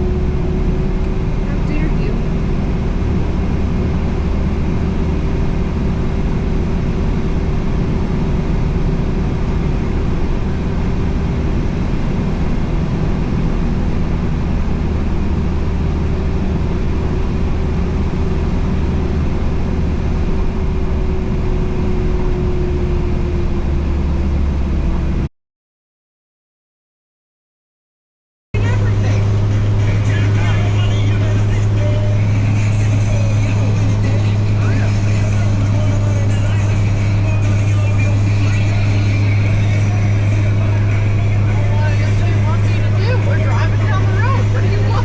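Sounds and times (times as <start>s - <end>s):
truck engine and road rumble: 0.0s - 25.3s, 28.6s - 45.0s.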